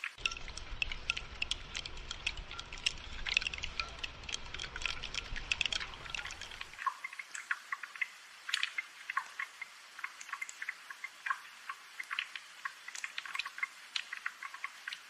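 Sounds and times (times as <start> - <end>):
light rain dripping: 0.0 - 15.0.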